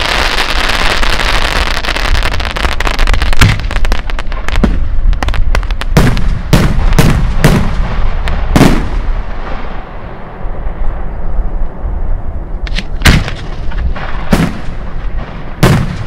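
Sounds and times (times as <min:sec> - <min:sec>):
fireworks booming: 0:00.0 - 0:11.2, 0:12.8 - 0:16.0.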